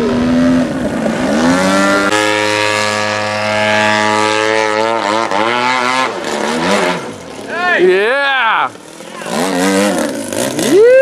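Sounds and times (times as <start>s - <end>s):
model airplane engine: 0.0s - 10.8s.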